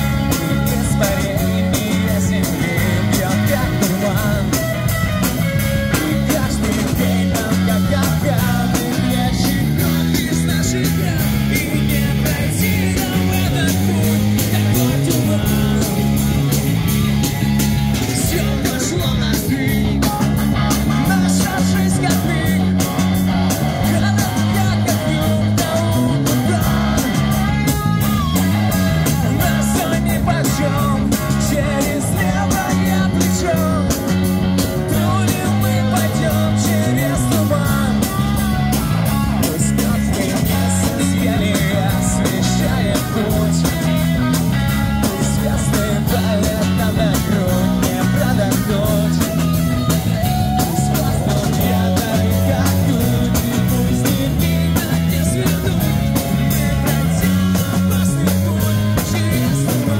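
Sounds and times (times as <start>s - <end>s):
drum kit beat: 0.0s - 59.9s
electric guitars and bass: 0.0s - 59.9s
person singing: 0.0s - 59.9s.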